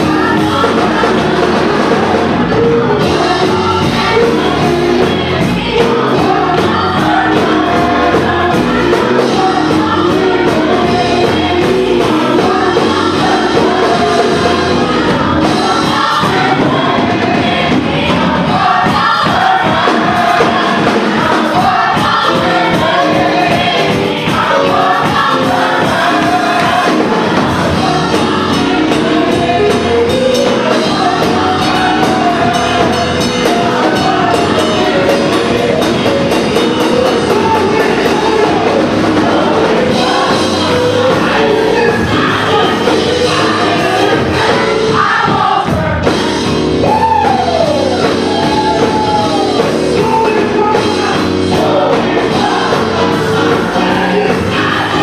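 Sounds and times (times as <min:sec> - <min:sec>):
drums with steady beat: 0:00.0 - 0:55.0
gospel choir singing: 0:00.0 - 0:55.0.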